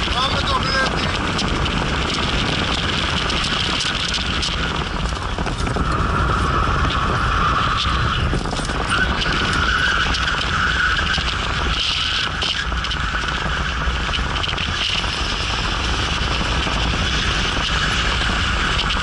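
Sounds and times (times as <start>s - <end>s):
car engine under load: 0.0s - 19.0s
road noise: 0.0s - 19.0s.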